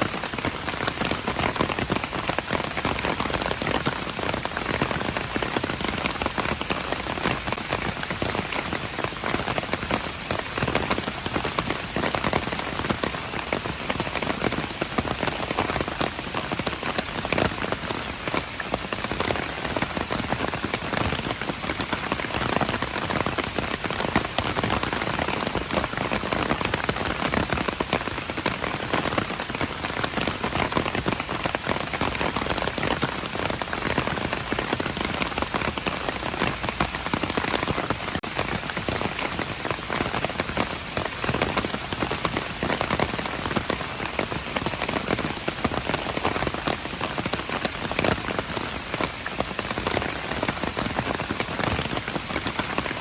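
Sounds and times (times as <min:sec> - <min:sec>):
rain pattering on hard surfaces: 0:00.0 - 0:53.0.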